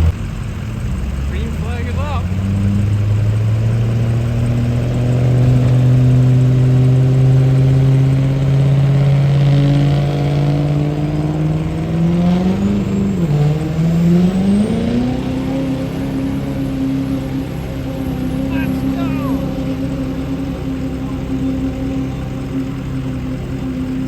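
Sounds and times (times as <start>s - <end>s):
truck engine revving under load: 0.0s - 24.0s.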